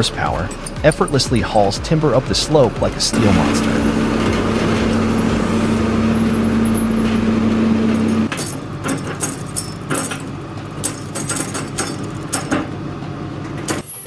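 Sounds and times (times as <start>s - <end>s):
diesel engine running under load: 0.0s - 13.8s
metallic clanking and rattling: 0.0s - 14.0s.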